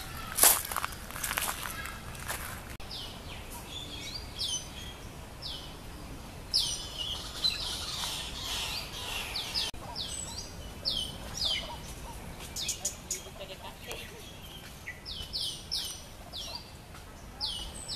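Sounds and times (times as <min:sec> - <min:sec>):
birds calling with descending notes: 0:00.0 - 0:17.9.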